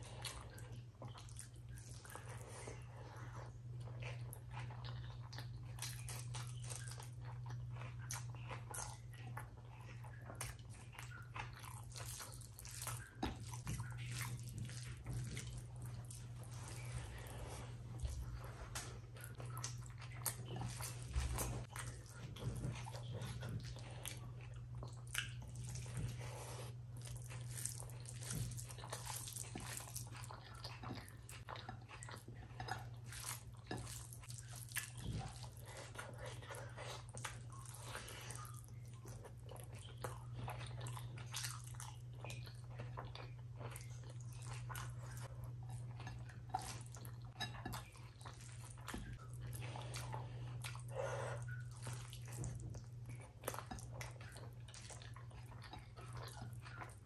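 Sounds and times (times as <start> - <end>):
chewing with lip smacks: 0.0 - 57.0
steady low hum: 0.0 - 57.0
wet squishing of food: 0.0 - 57.0.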